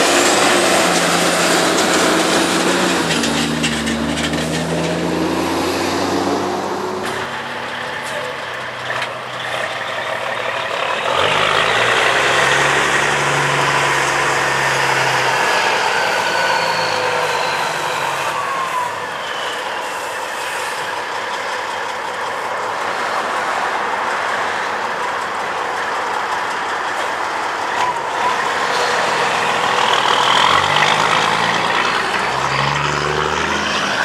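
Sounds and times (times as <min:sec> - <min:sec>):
truck passing close by: 0:00.0 - 0:34.0.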